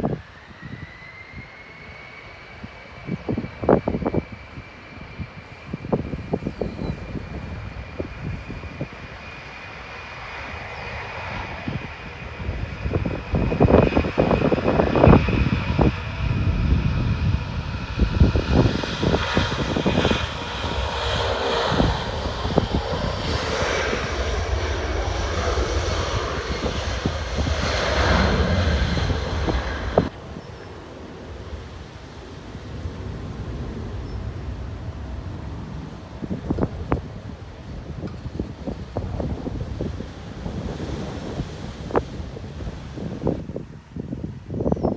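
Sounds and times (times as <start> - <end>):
jet engines roaring: 0.0 - 44.8
wind buffeting microphone: 0.0 - 44.9.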